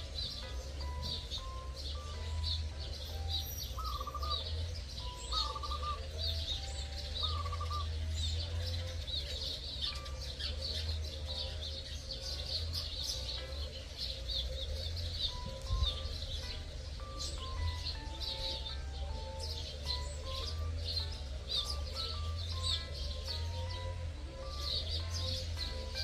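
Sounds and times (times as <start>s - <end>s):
background music with bass: 0.0s - 26.0s
small birds chirping: 0.0s - 26.0s.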